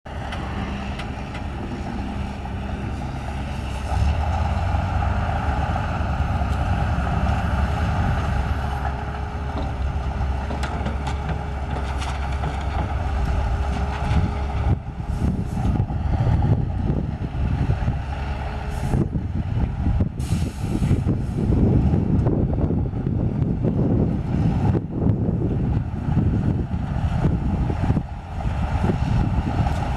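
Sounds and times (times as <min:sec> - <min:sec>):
diesel engines running: 0:00.1 - 0:29.9
wind buffeting microphone: 0:00.1 - 0:29.9.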